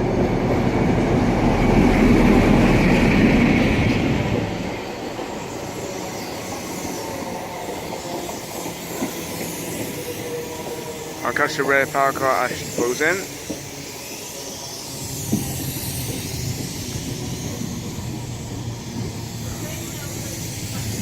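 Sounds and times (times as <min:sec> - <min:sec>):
train wheels clacking on rails: 0:00.0 - 0:21.0.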